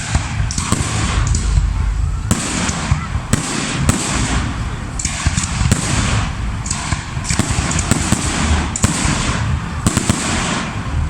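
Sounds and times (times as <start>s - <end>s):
fireworks bangs: 0.0s - 11.0s
fireworks crackling: 0.0s - 11.0s
low rumbling booms: 0.0s - 11.0s.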